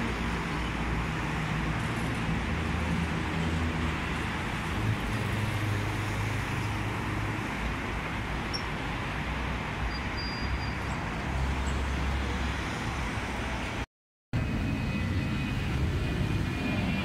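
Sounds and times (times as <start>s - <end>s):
road traffic noise: 0.0s - 17.0s
vehicles passing with engine hum: 0.0s - 17.0s.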